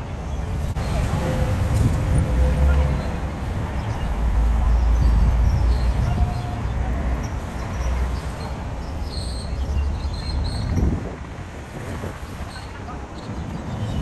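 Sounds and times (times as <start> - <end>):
harbour ambience: 0.0 - 14.0
wind buffeting microphone: 0.0 - 14.0.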